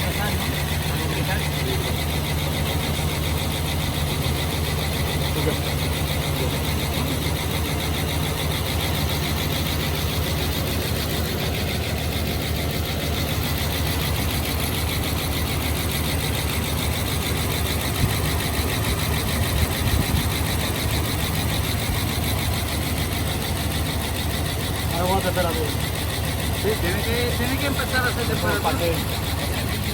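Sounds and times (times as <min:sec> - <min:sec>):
engine idling: 0:00.0 - 0:29.9
fast even engine ticking: 0:00.0 - 0:29.9.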